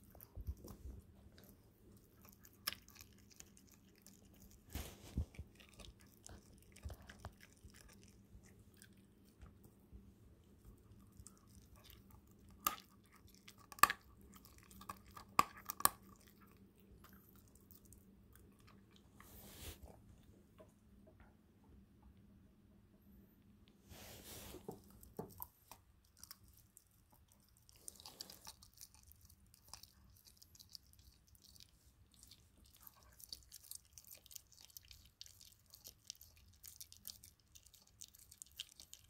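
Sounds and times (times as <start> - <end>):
puppy chewing bones: 0.0 - 9.6, 10.6 - 19.1, 24.9 - 39.0.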